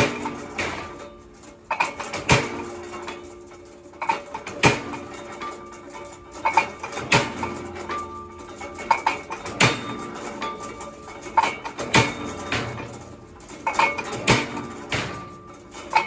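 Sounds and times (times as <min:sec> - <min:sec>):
metal clanks with ringing: 0:00.0 - 0:16.0.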